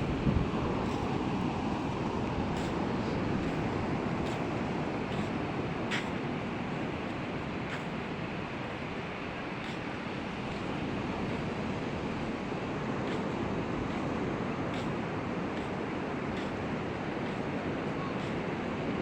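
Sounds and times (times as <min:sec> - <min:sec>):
waves washing onto beach: 0:00.0 - 0:19.0.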